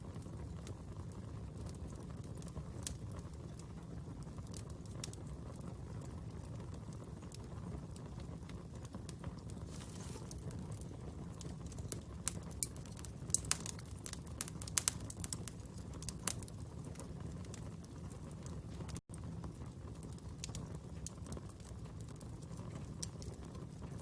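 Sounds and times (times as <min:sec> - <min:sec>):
fire burning with crackles and pops: 0:00.0 - 0:24.0.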